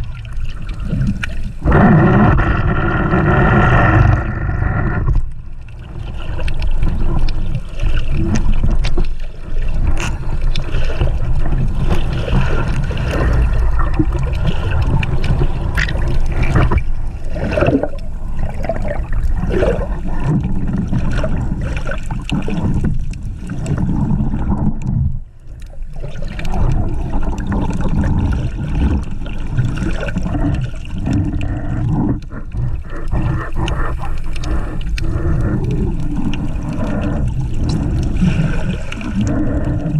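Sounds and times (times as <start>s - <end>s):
gurgling bubbles: 0.0s - 39.9s
underwater rush: 0.0s - 39.9s.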